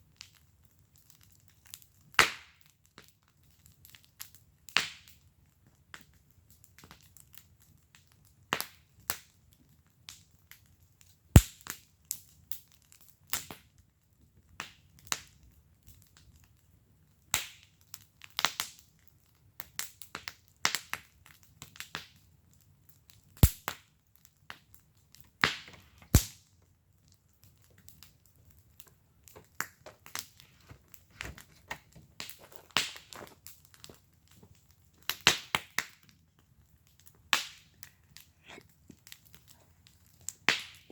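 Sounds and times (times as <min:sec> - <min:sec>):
wood fire crackling and popping: 0:00.0 - 0:40.9
loud fire snaps: 0:00.1 - 0:40.9.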